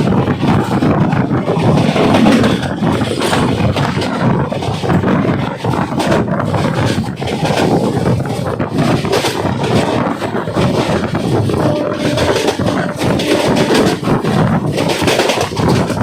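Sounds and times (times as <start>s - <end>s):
train wheels rumbling on rails: 0.0s - 16.0s
wind buffeting microphone: 0.0s - 16.0s.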